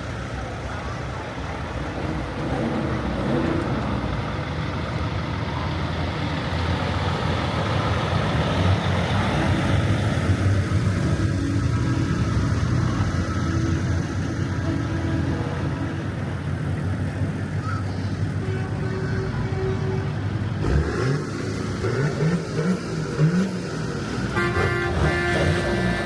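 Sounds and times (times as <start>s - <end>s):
trucks driving past: 0.0s - 26.0s.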